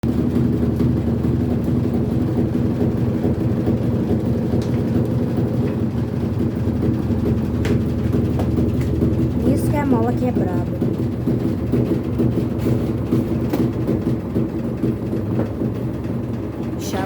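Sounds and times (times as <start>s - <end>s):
washing machine humming: 0.0s - 17.0s
washing machine tub banging: 0.0s - 17.0s.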